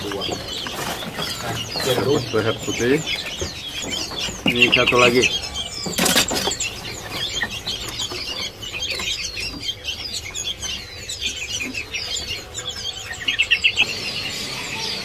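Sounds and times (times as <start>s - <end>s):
songbirds chirping and calling: 0.0s - 15.0s.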